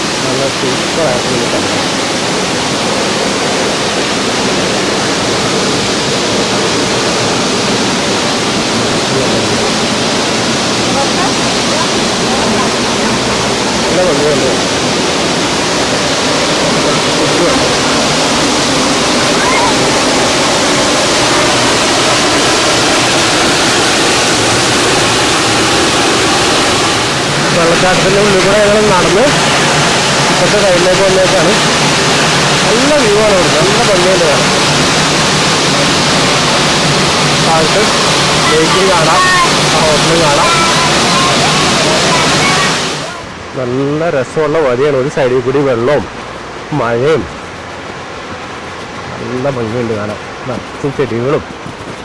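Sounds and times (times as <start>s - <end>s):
large waterfall rushing: 0.0s - 52.0s.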